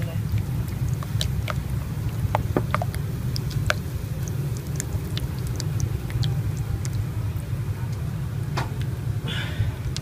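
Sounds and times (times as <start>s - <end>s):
water ticking and popping: 0.0s - 9.0s
mist maker humming: 0.0s - 10.0s.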